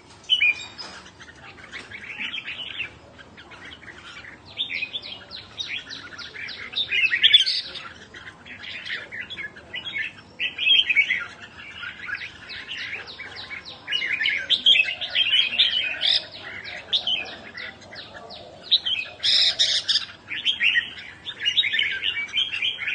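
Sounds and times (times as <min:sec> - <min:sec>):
bird chirping: 0:00.0 - 0:22.9.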